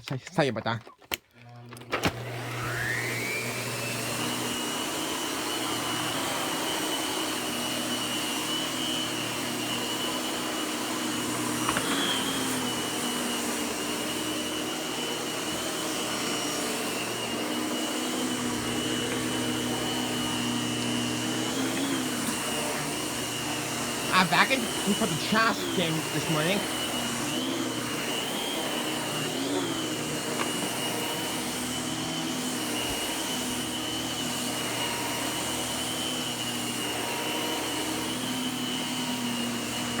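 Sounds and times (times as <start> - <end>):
vacuum cleaner motor whine: 1.4 - 40.0.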